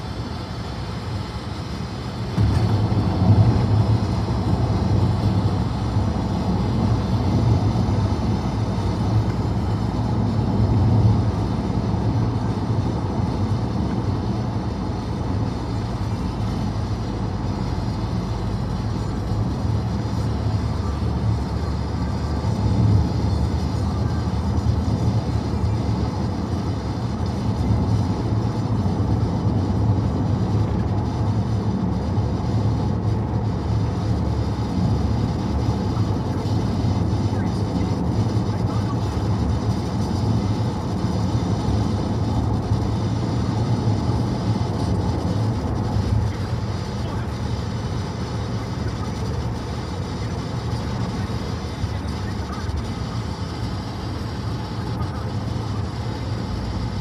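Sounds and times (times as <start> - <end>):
car road and tyre noise: 0.0 - 57.0.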